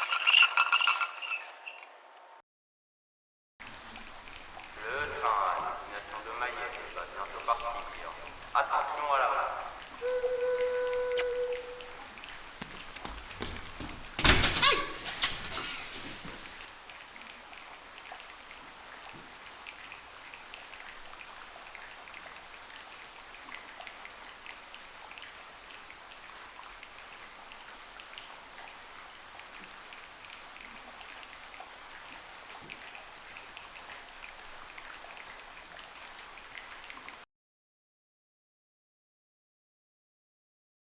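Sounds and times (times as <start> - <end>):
rain-like patter: 3.6 - 37.3.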